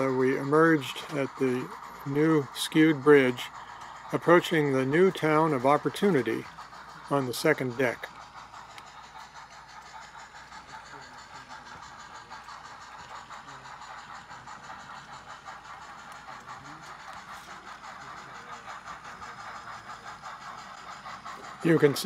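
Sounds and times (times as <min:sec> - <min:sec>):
model steam locomotives running: 0:00.0 - 0:22.0.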